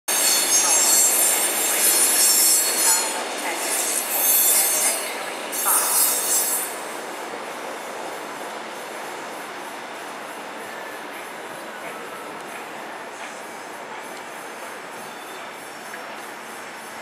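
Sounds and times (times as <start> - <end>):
train wheels squealing: 0.1 - 6.9, 8.8 - 17.0
train rumble: 0.1 - 17.0.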